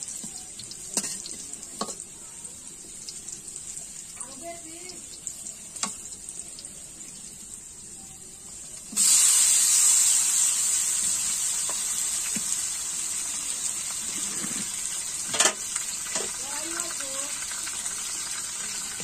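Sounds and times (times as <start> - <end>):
chicken sizzling in a wok: 0.0 - 19.0.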